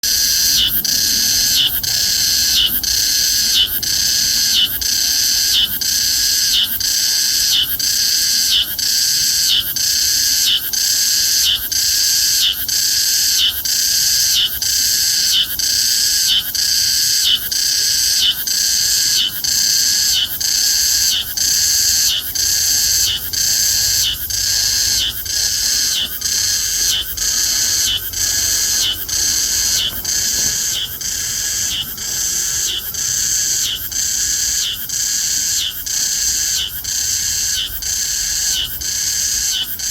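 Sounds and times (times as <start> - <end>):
cicada calling: 0.0 - 39.9.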